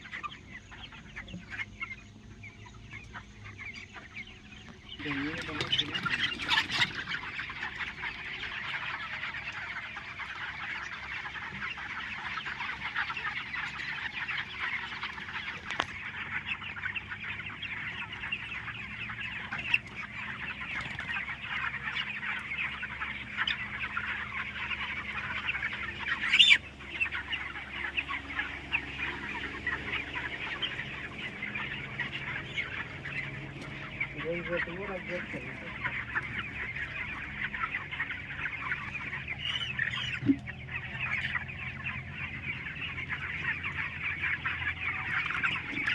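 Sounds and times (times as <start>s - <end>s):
chicken sharp cry: 0.0s - 45.9s
chickens clucking and cheeping: 0.0s - 45.9s.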